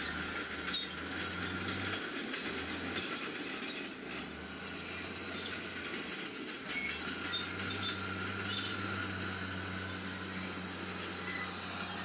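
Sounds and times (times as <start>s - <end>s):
bulldozer engines running: 0.0s - 12.0s
steel tracks clanking and squealing: 0.0s - 12.0s.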